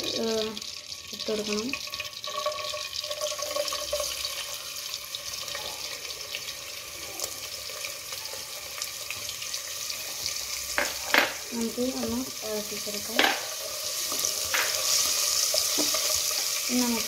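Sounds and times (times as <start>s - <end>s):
garlic sizzling in oil: 0.0s - 17.0s.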